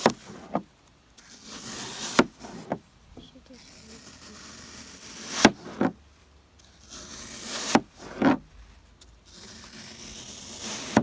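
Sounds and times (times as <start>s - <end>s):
knife slicing through foam: 0.0s - 11.0s.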